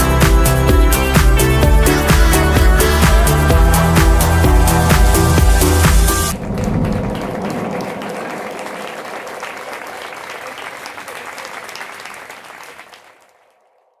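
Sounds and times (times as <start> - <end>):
applause: 0.0 - 13.7.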